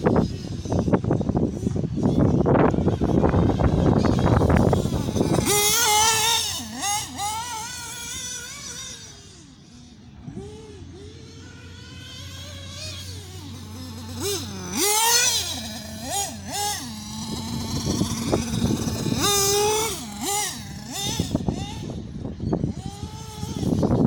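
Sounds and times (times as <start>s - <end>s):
nitro engine revving: 0.0s - 24.0s.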